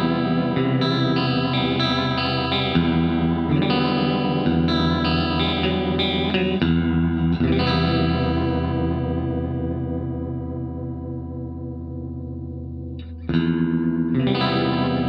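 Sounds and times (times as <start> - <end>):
electric guitar chords with chorus: 0.0 - 15.0.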